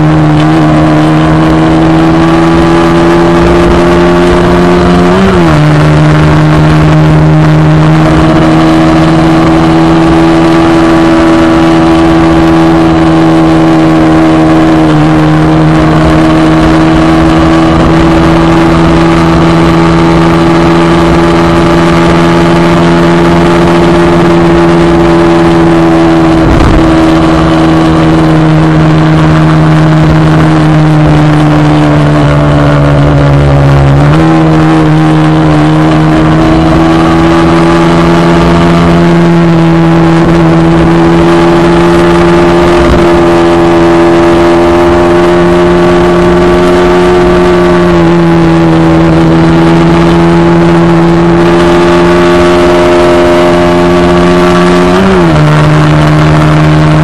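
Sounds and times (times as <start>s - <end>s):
motorcycle engine running: 0.0s - 57.0s
rushing wind: 0.0s - 57.0s.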